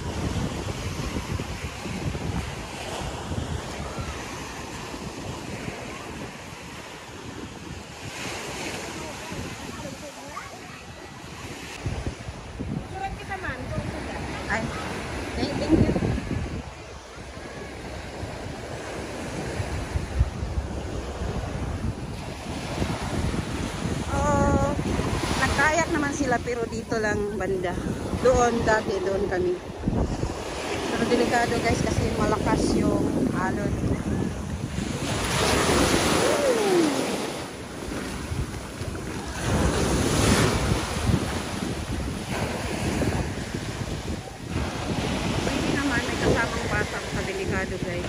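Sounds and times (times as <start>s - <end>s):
surf washing on beach: 0.0s - 48.0s
wind buffeting microphone: 0.0s - 48.0s.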